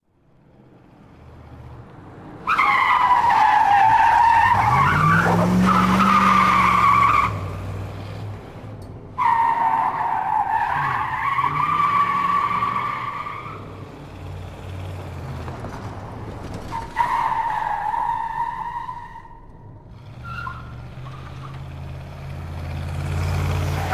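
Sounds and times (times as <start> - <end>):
car engine revving: 1.2 - 23.9.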